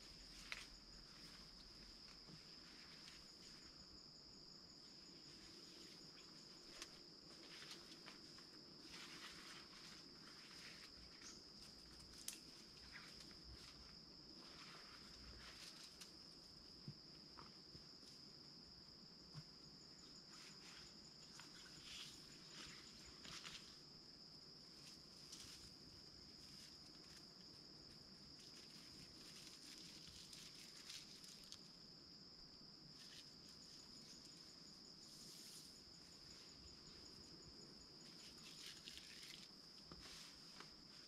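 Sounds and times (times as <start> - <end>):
soft rustles and ticks: 0.0 - 3.8, 5.2 - 18.5, 19.2 - 24.0, 24.7 - 31.8, 32.9 - 41.0
insect trill: 0.0 - 41.0.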